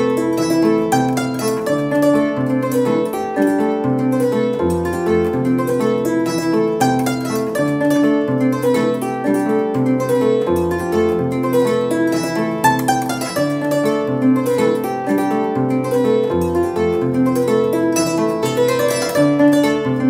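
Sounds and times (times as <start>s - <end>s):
plucked harp-lute: 0.0s - 20.0s.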